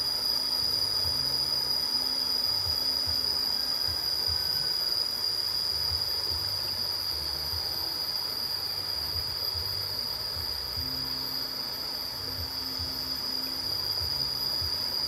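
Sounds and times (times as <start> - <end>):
insects calling high drone: 0.0 - 15.0.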